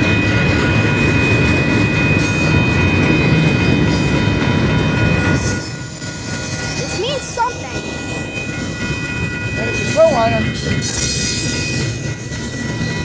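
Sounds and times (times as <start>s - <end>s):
freight train wheels rumbling: 0.0s - 13.0s
high squeal of train: 0.0s - 13.0s.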